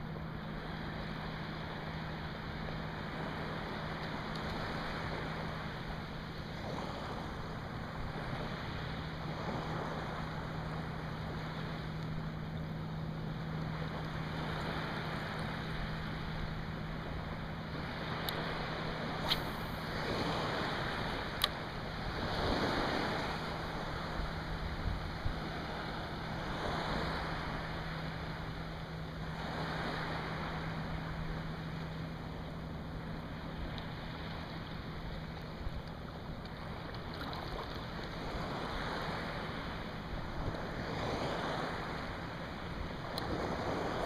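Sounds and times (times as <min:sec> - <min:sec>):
small waves lapping: 0:00.0 - 0:44.0
steady low hum: 0:00.0 - 0:44.0.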